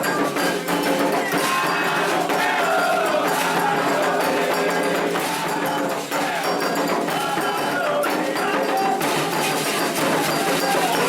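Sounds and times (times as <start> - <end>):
hand drums: 0.0 - 11.0
voices singing a chant: 0.0 - 11.0.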